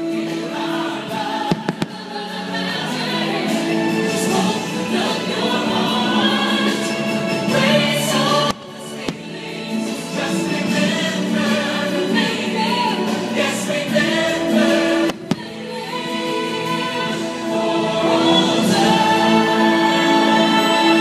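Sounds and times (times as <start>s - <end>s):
choir singing with backing: 0.0s - 21.0s.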